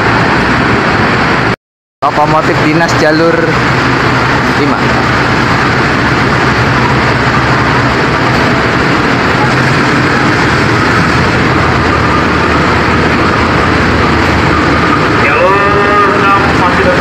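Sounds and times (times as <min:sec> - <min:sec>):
locomotive engine running: 0:00.0 - 0:17.0.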